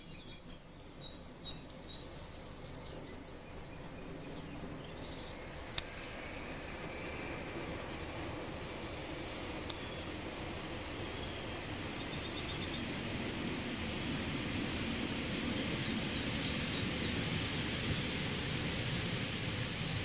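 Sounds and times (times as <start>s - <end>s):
songbirds chirping: 0.0s - 17.4s.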